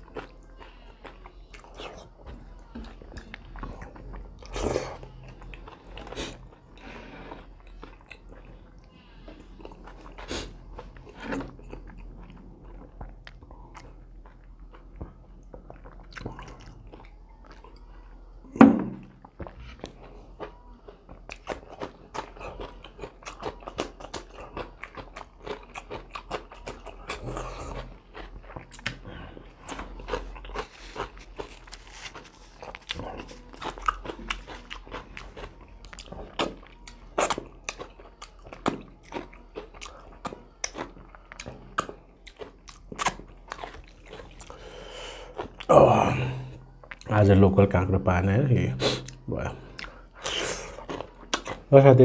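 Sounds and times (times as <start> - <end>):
man chewing and crunching food: 0.0 - 52.0.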